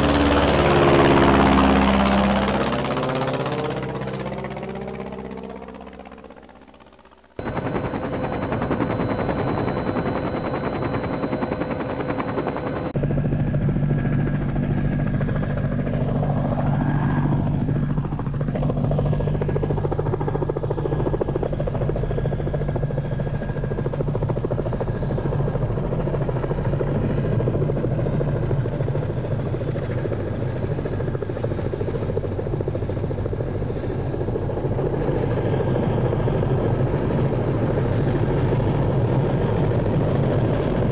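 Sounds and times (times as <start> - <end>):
deep helicopter hum: 0.0 - 40.9
helicopter rotor chop: 0.0 - 40.9
helicopter turbine noise: 0.0 - 40.9.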